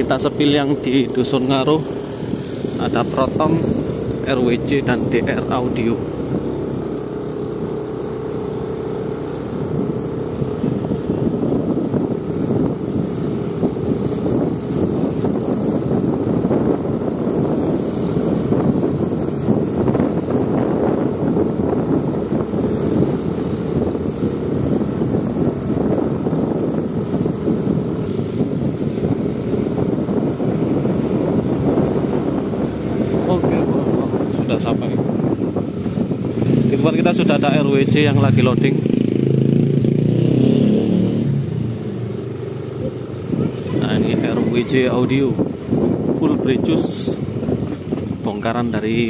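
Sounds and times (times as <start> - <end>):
motorcycle engine running: 0.0 - 49.0
wind and road noise: 0.0 - 49.0.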